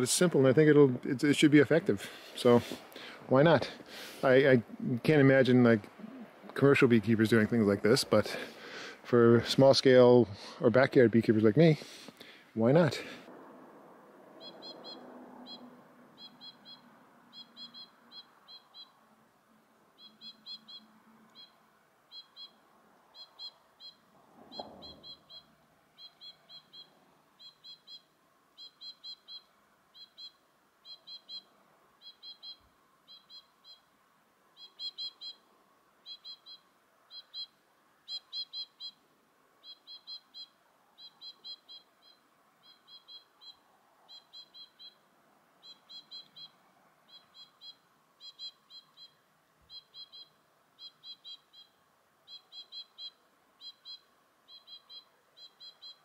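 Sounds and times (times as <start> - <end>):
songbird chirping: 0.0 - 13.4, 14.2 - 56.0.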